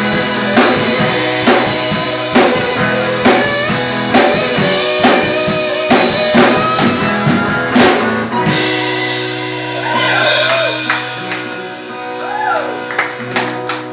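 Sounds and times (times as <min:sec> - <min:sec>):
acoustic guitar: 0:00.0 - 0:13.9
drum kit: 0:00.0 - 0:13.9
electric guitar: 0:00.0 - 0:13.9.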